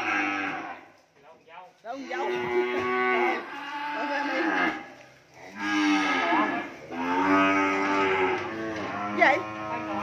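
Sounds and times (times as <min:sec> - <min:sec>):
cow mooing: 0:00.0 - 0:00.8, 0:02.1 - 0:10.0.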